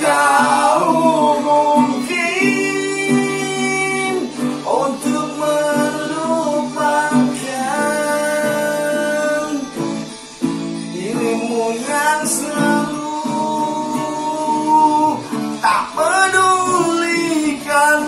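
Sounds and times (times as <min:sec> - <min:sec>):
men singing: 0:00.0 - 0:10.1, 0:10.8 - 0:18.0
strummed acoustic guitar: 0:00.0 - 0:18.0.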